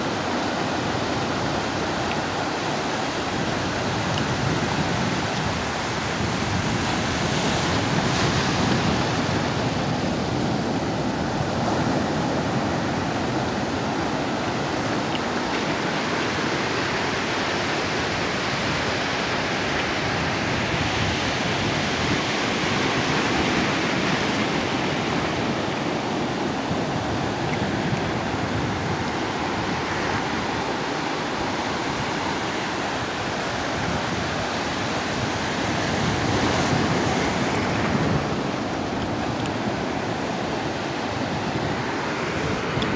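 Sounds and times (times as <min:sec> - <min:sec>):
waves breaking on beach: 0:00.0 - 0:42.9.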